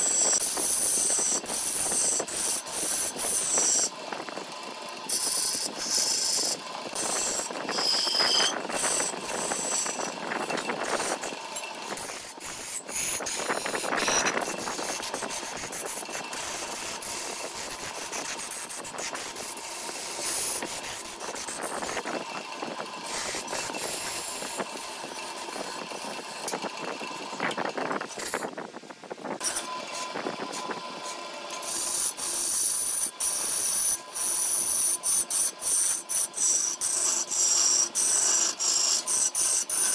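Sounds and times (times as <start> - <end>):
gouge scraping spinning wood: 0.0 - 39.9.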